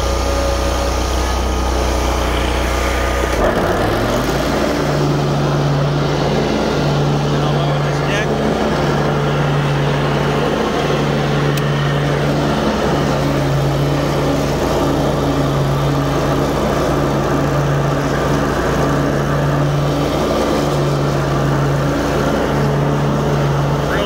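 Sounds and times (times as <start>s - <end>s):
lawn mower engine running: 0.0s - 24.0s.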